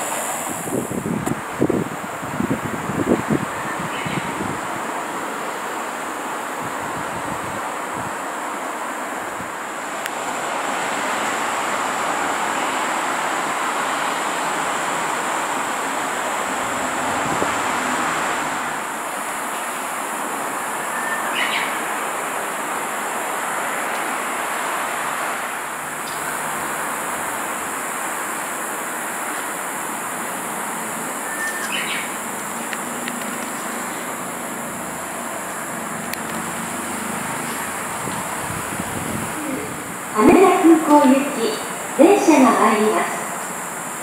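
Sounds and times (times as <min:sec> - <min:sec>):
rushing outdoor background noise: 0:00.0 - 0:44.0.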